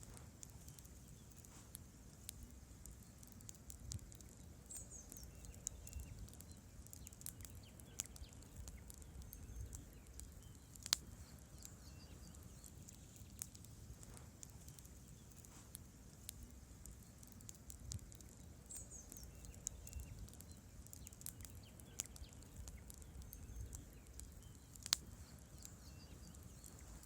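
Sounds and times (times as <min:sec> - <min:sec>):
campfire crackling and popping: 0:00.0 - 0:27.0
low rumble of flame: 0:00.0 - 0:27.0.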